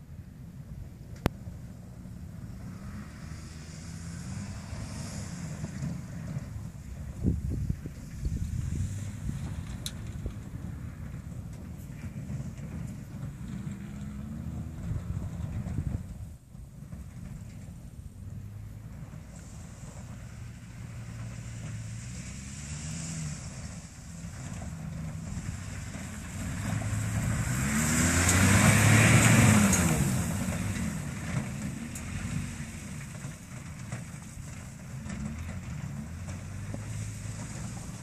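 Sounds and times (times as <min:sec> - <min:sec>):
pickup truck driving by: 0:00.0 - 0:38.0.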